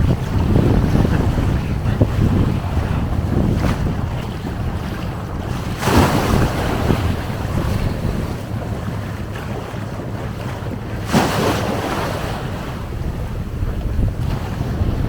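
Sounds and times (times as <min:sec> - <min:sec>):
waves washing onto stony shore: 0:00.0 - 0:09.3, 0:09.9 - 0:15.0
wind rumbling on microphone: 0:00.0 - 0:15.0.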